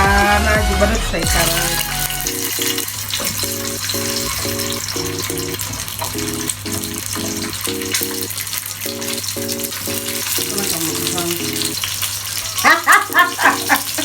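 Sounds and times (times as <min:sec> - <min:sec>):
background music of repeated chords: 0:00.0 - 0:11.8
eggs sizzling in hot oil: 0:01.3 - 0:14.0.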